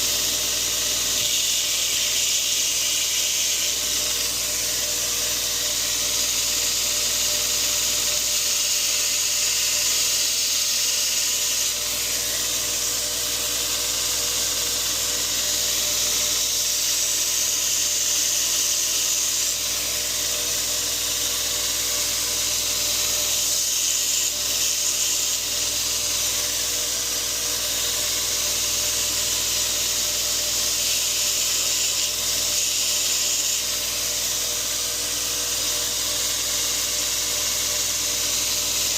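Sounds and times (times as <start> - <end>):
belt grinder grinding steel: 0.0 - 38.9
motor hum: 0.0 - 38.9.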